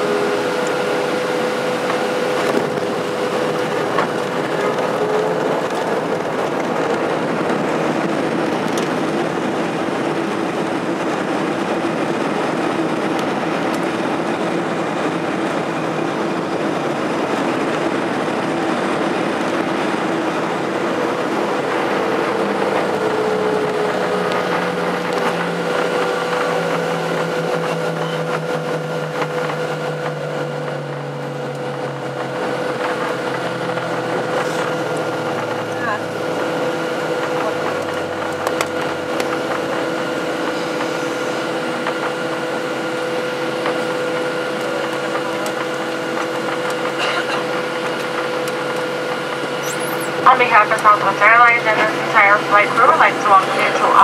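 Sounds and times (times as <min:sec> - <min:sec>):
jet engine noise: 0:00.0 - 0:54.0
wheels rumbling: 0:00.0 - 0:54.0.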